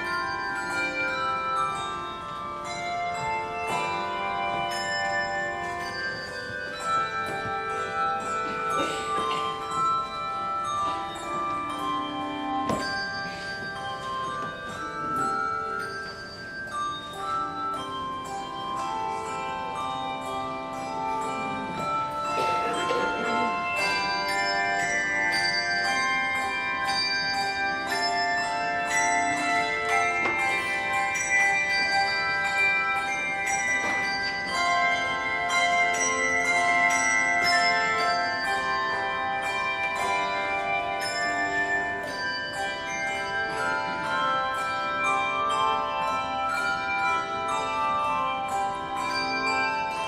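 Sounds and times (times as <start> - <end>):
handbell choir ringing: 0.0 - 50.0.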